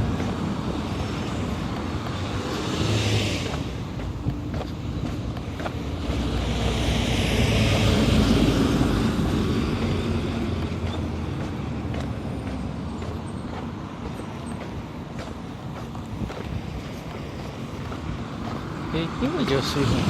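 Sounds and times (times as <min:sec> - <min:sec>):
road vehicle passing: 0:00.0 - 0:20.0.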